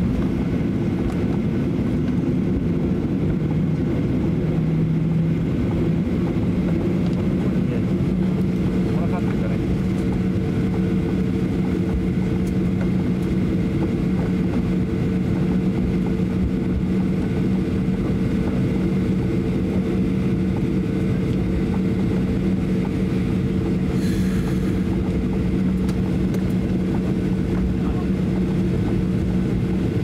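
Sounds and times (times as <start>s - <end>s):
aircraft cabin engine drone: 0.0s - 30.0s.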